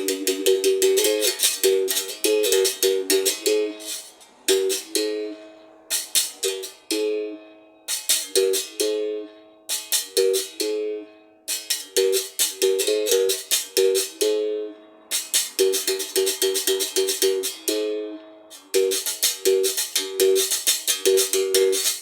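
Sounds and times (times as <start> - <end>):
berimbau rhythmic strikes: 0.0 - 22.0.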